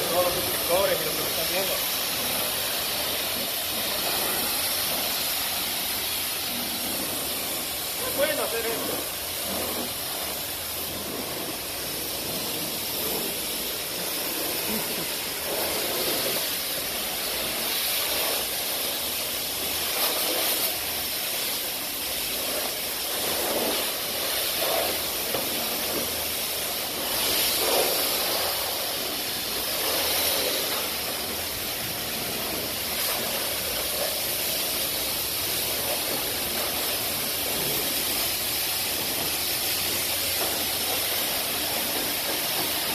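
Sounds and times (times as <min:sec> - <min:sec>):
high-pressure water spray hissing: 0:00.0 - 0:42.9.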